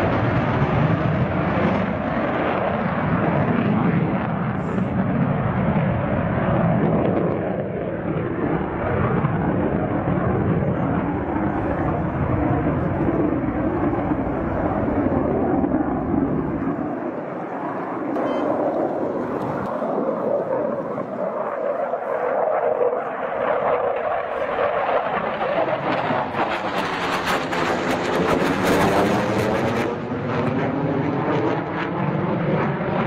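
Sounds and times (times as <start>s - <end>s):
fighter jet roar: 0.0s - 33.0s.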